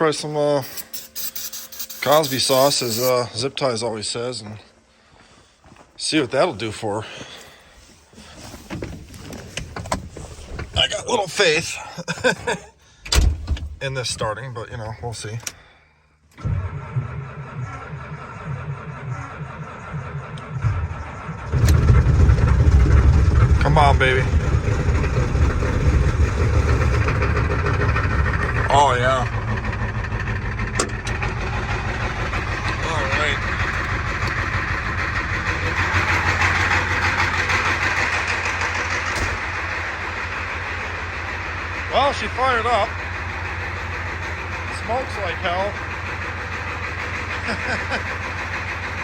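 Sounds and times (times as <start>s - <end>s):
diesel engine cranking: 0.0s - 3.6s, 6.3s - 49.0s.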